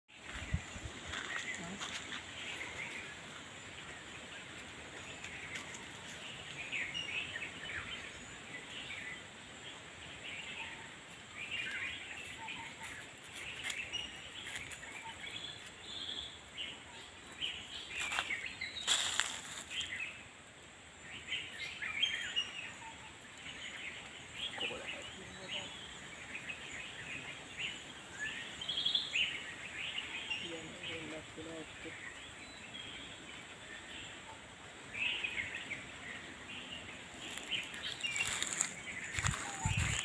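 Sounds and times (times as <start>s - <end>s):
background noise: 0.1s - 40.0s
birds chirping: 0.1s - 40.0s.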